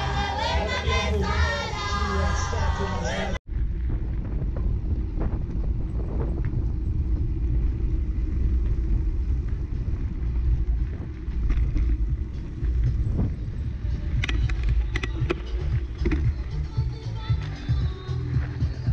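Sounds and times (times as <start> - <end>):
wind and rolling rumble: 0.0 - 18.9.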